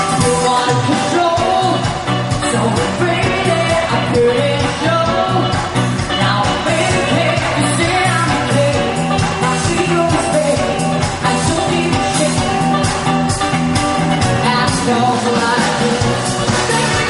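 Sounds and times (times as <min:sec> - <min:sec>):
bass line: 0:00.0 - 0:17.0
drums: 0:00.0 - 0:17.0
person singing: 0:00.0 - 0:17.0.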